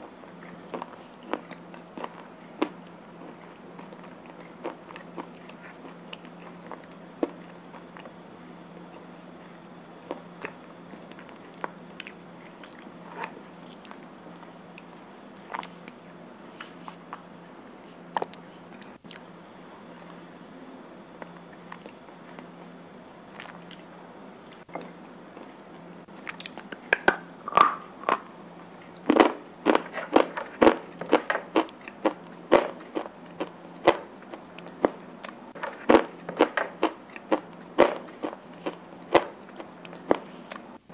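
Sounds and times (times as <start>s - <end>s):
slate pencils being chewed: 0.4s - 8.2s, 8.8s - 17.3s, 21.2s - 40.7s.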